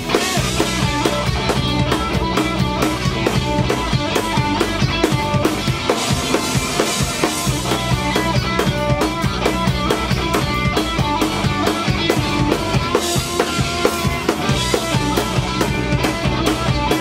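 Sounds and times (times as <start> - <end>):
bass guitar: 0.0 - 17.0
drum kit beat: 0.0 - 17.0
electric guitar: 0.0 - 17.0.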